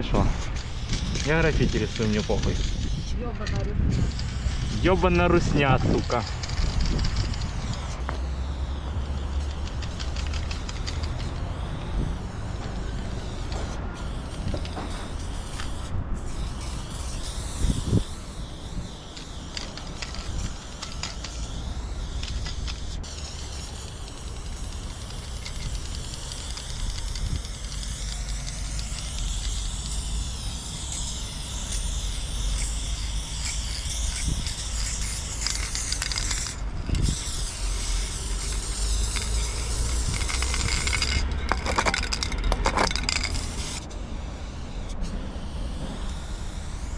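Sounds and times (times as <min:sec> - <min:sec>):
spray paint can hissing: 0:00.0 - 0:46.9.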